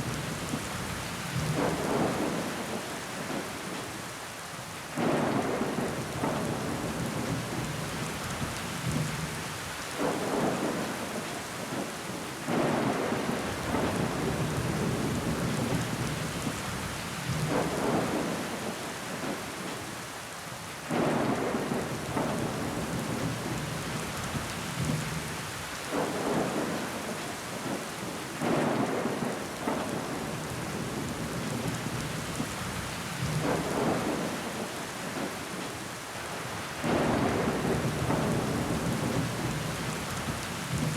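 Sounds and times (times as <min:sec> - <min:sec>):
rain pattering on window: 0:00.0 - 0:40.9.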